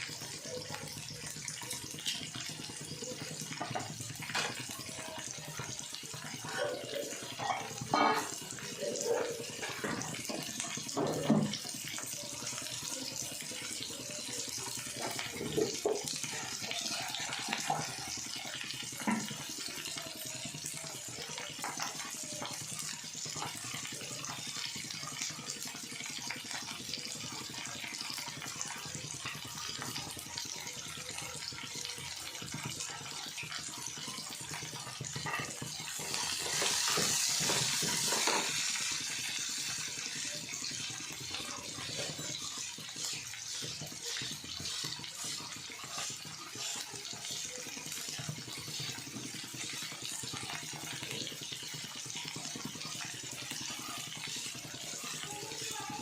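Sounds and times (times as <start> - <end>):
kitchen tap running into sink: 0.0 - 56.0.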